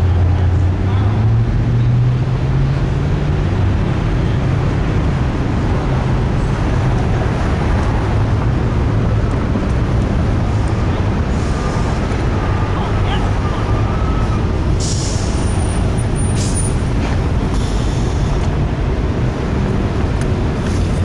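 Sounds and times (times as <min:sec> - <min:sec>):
rumble of rolling train cars: 0:00.0 - 0:21.0.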